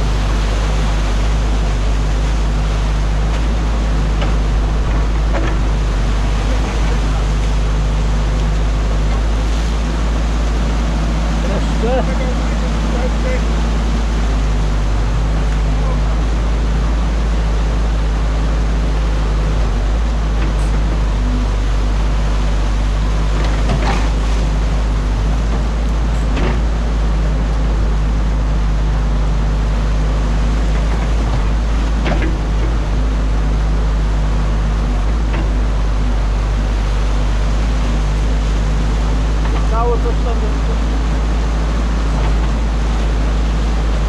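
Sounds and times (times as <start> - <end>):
diesel engine running: 0.0 - 44.0
rushing water: 0.0 - 44.0.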